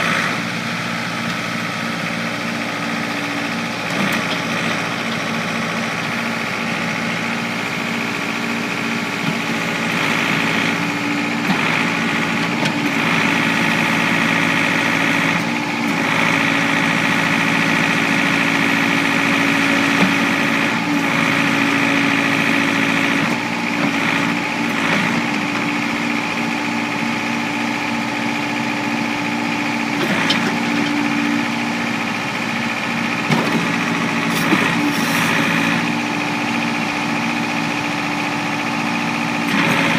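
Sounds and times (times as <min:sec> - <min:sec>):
diesel engine running: 0:00.0 - 0:39.9
high engine whine: 0:00.0 - 0:39.9.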